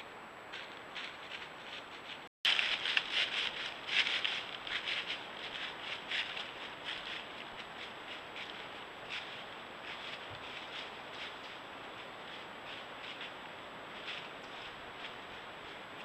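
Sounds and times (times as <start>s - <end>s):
crackling and rustling: 0.5s - 13.4s.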